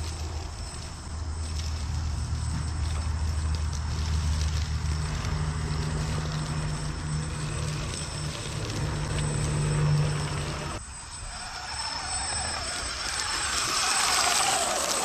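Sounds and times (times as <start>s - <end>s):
electric motor humming: 0.0s - 15.0s
tyres crackling on dry leaves: 0.0s - 15.0s.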